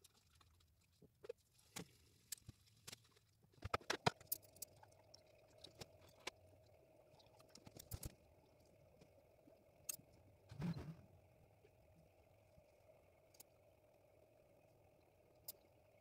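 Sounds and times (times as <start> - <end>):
faint irregular clicks: 0.0 - 10.8, 11.6 - 16.0
faint steady hum: 0.0 - 16.0.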